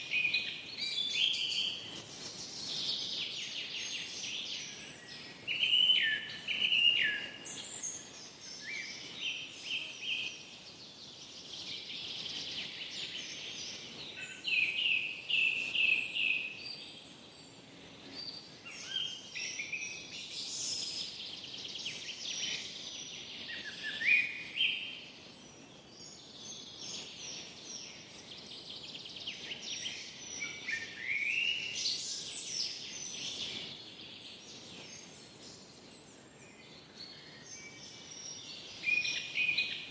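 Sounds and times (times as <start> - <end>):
forest ambience hiss: 0.0 - 39.9
songbirds singing and calling: 0.0 - 39.9.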